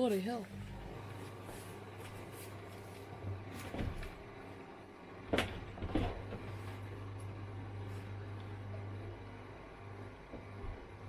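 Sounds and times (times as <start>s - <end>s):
washing machine humming: 0.0s - 11.0s.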